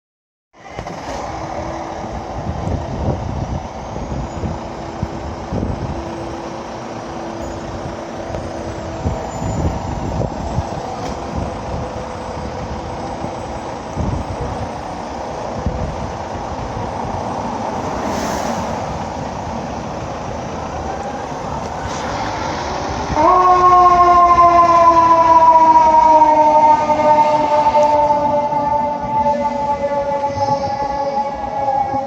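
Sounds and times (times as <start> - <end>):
engine and road rumble: 0.6 - 32.0.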